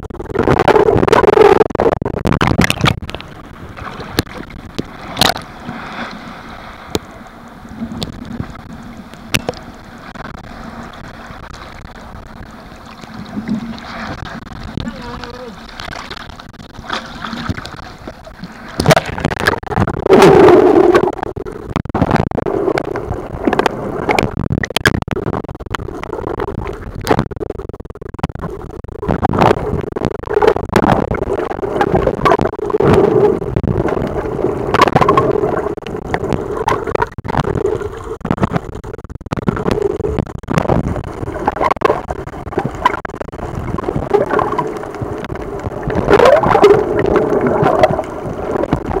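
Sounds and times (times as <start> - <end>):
sharp underwater clicks and pops: 0.0 - 6.1, 7.8 - 49.0
underwater waves rushing and gurgling: 0.0 - 49.0.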